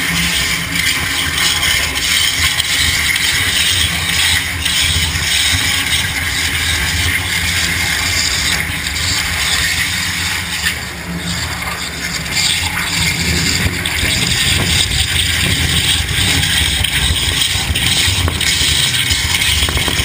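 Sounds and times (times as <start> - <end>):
waterjet cutter hissing: 0.0 - 20.0.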